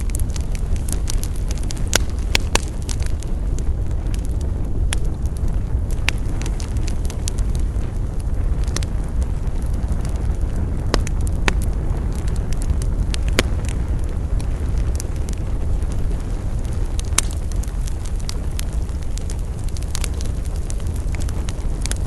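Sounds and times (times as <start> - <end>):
burning wood popping: 0.0 - 22.0
low rumble: 0.0 - 22.0
wood fire crackling: 0.0 - 22.0.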